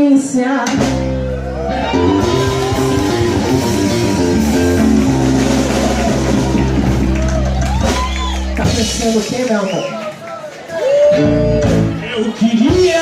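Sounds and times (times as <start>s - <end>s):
live rock band instrumental: 0.6s - 9.7s, 11.0s - 13.0s.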